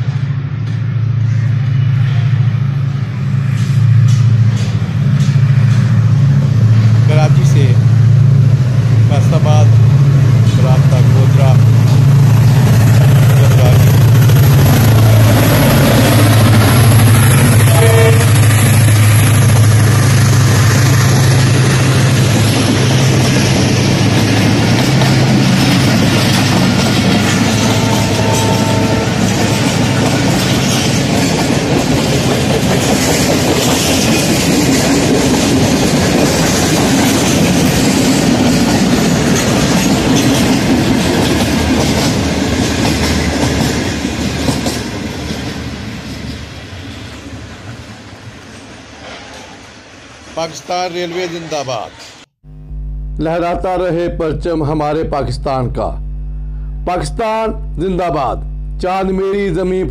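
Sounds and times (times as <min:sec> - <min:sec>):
train wheels on rails: 0:00.0 - 0:52.3
diesel locomotive engine hum: 0:00.0 - 0:59.9.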